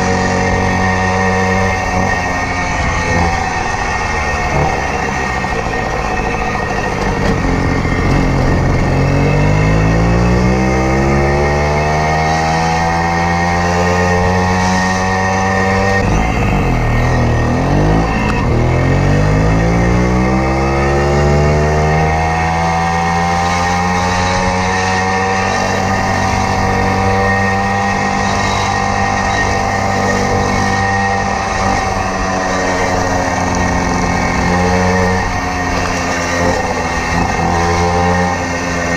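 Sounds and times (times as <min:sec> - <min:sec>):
moped engine revving: 0:00.0 - 0:38.9.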